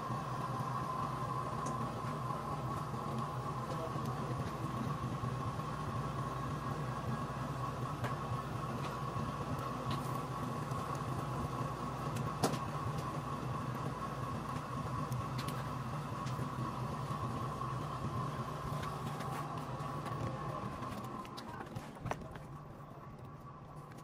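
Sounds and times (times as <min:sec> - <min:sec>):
potter's wheel motor humming: 0:00.0 - 0:24.0.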